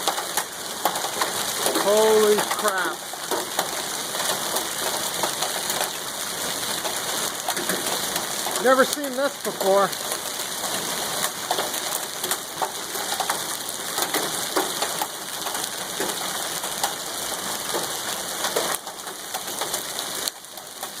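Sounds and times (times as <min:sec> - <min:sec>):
hailstones striking hard surfaces: 0:00.0 - 0:21.0
heavy rain and hail falling: 0:00.0 - 0:21.0.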